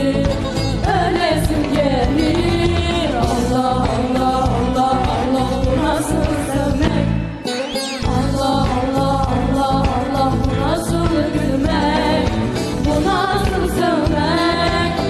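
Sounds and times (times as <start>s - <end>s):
vocal group singing in harmony: 0.0s - 15.0s.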